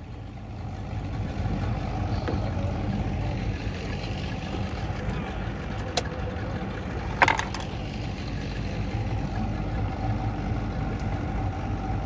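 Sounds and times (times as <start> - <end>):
boat engine rumbling: 0.0 - 12.0
water noise: 0.0 - 12.0
wind: 0.0 - 12.0.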